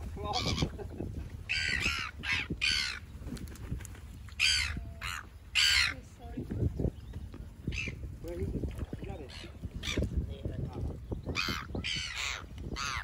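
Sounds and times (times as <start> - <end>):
gulls calling: 0.1 - 3.4, 4.0 - 10.1, 11.3 - 13.0.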